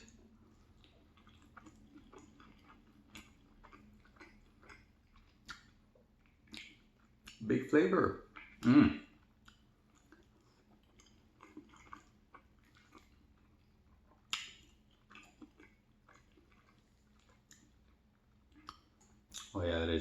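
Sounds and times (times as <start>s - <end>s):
wet mouth chewing clicks: 0.0s - 7.4s, 8.3s - 19.6s.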